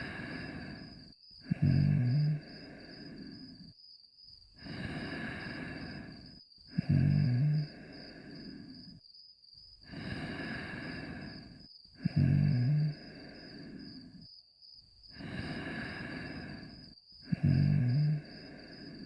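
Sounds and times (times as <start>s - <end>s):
loud low snore: 0.0s - 3.7s, 4.6s - 9.0s, 9.8s - 14.3s, 15.1s - 19.0s
soft breathy breaths: 0.0s - 3.8s, 4.5s - 9.1s, 9.7s - 14.4s, 15.0s - 19.0s.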